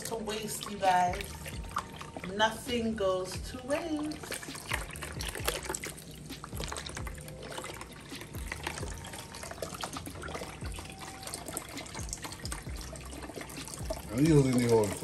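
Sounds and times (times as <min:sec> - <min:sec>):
broth trickling into a bowl: 0:00.0 - 0:15.0.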